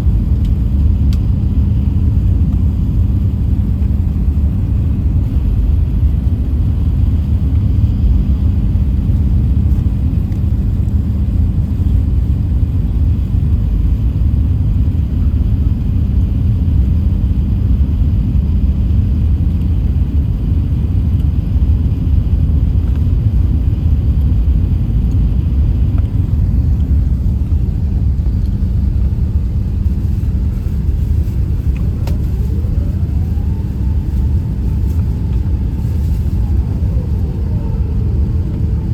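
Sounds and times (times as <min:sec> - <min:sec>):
airplane engines rumbling in cabin: 0:00.0 - 0:38.9.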